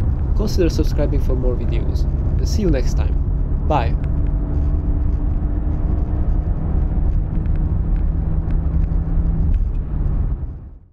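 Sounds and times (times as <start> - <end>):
car engine hum: 0.0 - 10.9
road noise inside car: 0.0 - 10.9.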